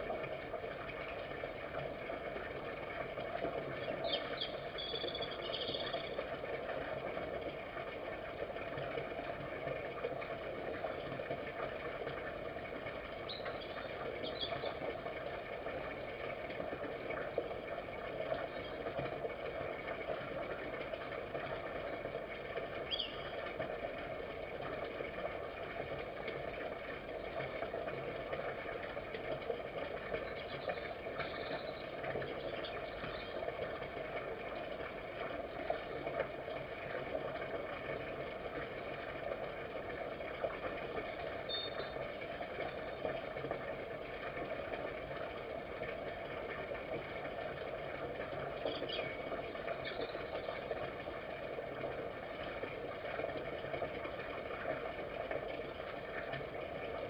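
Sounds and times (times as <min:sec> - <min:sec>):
constant low hum: 0:00.0 - 0:57.0.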